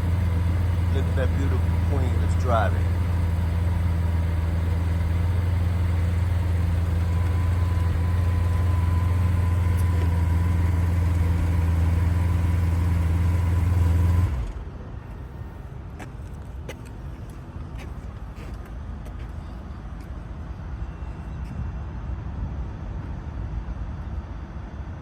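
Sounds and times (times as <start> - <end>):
vehicle engine idling: 0.0 - 23.2.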